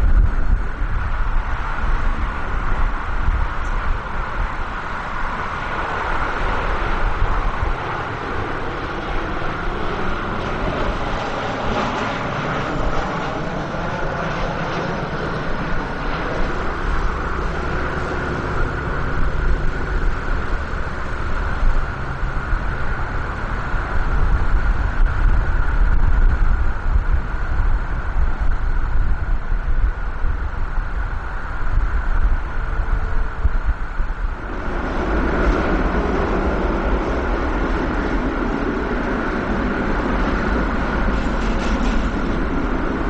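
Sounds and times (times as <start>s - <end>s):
jet engines whining: 0.0s - 43.0s
low rumble: 0.0s - 43.0s.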